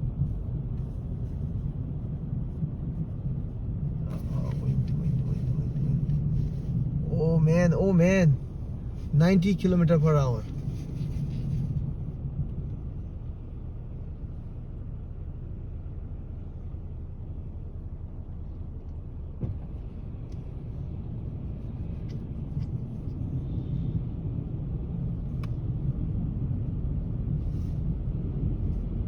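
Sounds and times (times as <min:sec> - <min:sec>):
road and engine rumble: 0:00.0 - 0:29.0.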